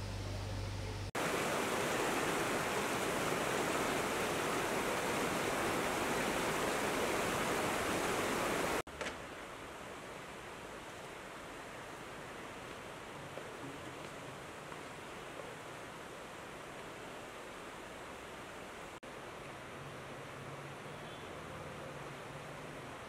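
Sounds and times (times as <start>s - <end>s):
faint steady hiss: 0.0s - 23.0s
river rushing over boulders: 1.2s - 20.9s.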